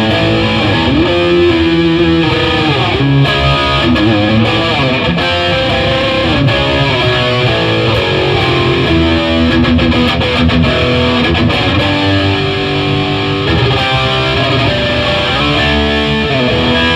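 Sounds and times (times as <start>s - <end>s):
overdriven electric guitar lead: 0.0s - 16.9s.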